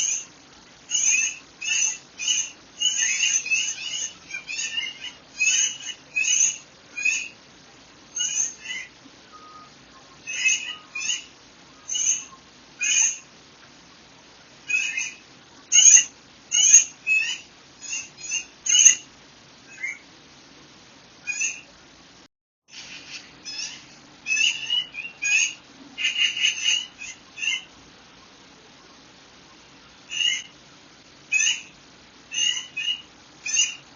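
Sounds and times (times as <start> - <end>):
songbirds chirping: 0.0 - 22.0, 22.8 - 33.9.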